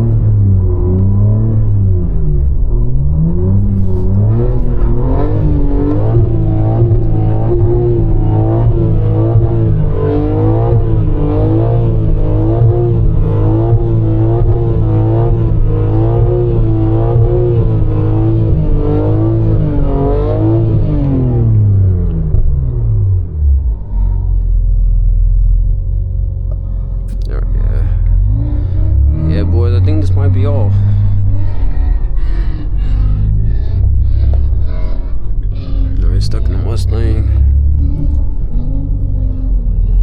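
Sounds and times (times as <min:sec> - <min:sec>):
car engine revving hard: 0:00.0 - 0:24.5, 0:27.1 - 0:40.0.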